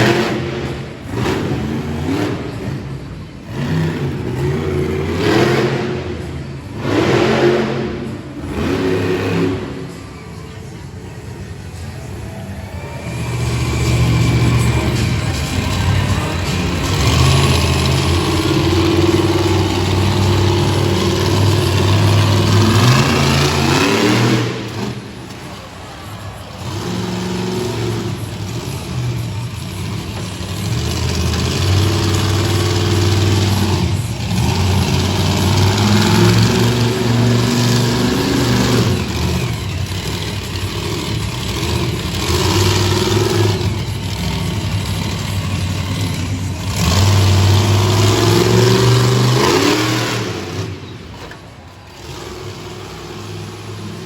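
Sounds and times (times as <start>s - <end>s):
truck engine revving hard: 0.0s - 10.1s, 13.0s - 54.0s.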